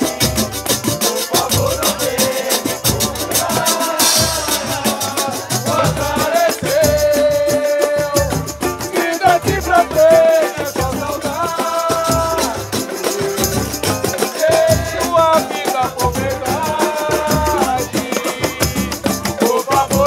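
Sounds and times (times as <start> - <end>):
samba percussion group: 0.0 - 20.0.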